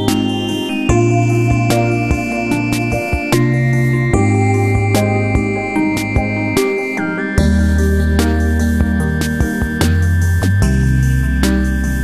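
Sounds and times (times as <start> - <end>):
synthesized chords with beat: 0.0 - 12.0.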